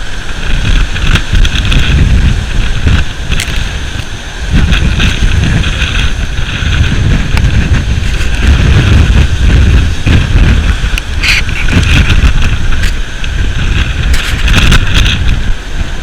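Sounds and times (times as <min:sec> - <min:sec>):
rough sea surf: 0:00.0 - 0:16.0
wind buffeting microphone: 0:00.0 - 0:16.0.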